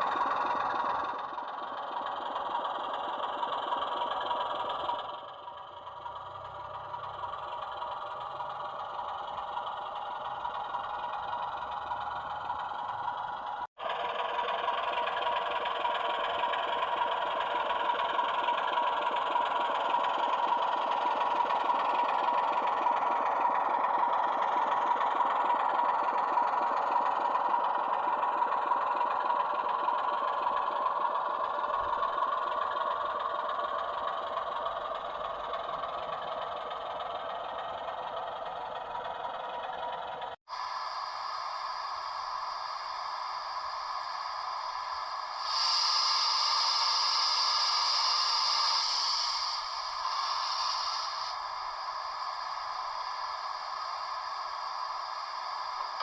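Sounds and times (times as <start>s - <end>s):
model locomotive running on track: 0.0s - 56.0s.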